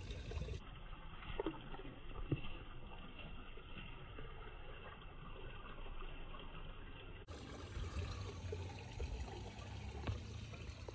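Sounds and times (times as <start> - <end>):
pond water trickling and splashing: 0.0 - 10.9.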